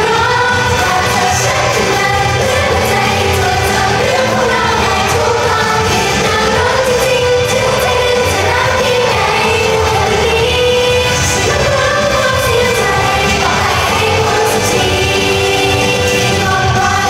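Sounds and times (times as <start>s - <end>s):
live pop song with vocals: 0.0s - 17.0s.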